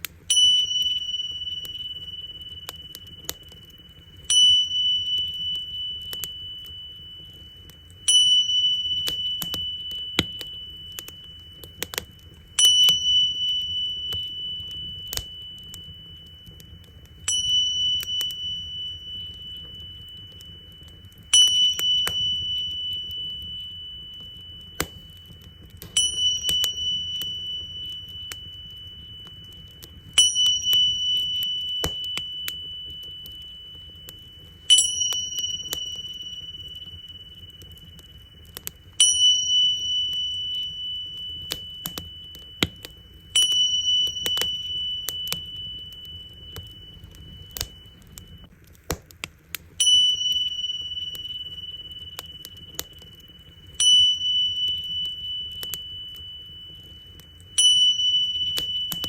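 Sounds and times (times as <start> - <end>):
small cymbals ringing: 0.0 - 48.5, 49.7 - 59.0
wood fire crackling: 0.0 - 59.0.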